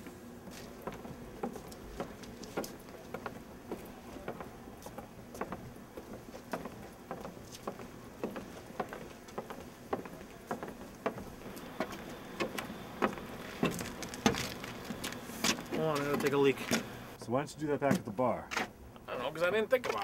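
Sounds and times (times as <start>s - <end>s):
footsteps on concrete: 0.0s - 17.0s.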